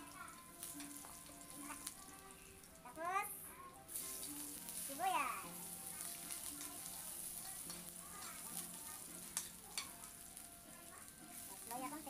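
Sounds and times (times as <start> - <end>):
spatula stirring in pan: 0.0 - 2.8, 3.9 - 12.0
meat sizzling in hot oil: 0.0 - 12.0.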